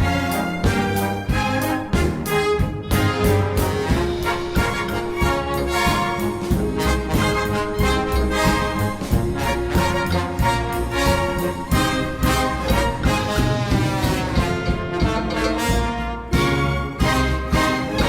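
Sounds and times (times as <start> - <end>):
orchestral music with brass: 0.0 - 18.0.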